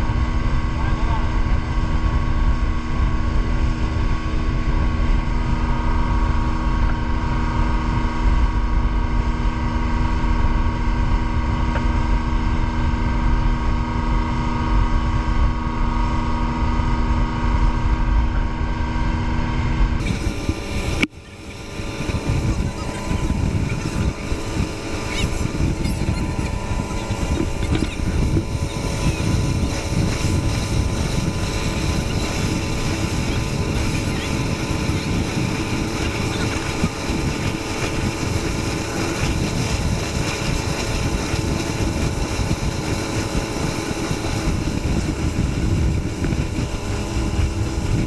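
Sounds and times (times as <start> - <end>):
motorboat engine running: 0.0 - 48.0.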